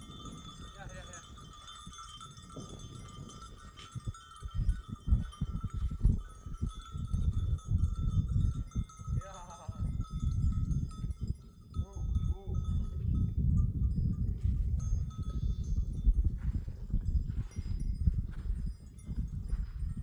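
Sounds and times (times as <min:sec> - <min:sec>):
animal bells ringing: 0:00.0 - 0:20.0
wind buffeting microphone: 0:00.0 - 0:20.0.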